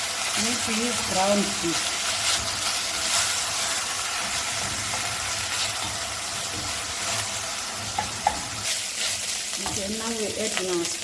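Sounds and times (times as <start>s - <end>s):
beef sizzling in a pan: 0.0s - 11.0s.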